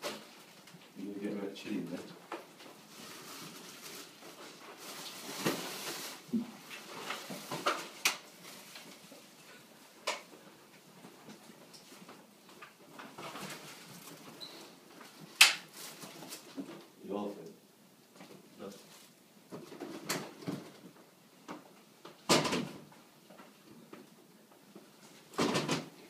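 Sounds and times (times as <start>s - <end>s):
rustling: 0.0s - 17.0s, 18.1s - 22.2s.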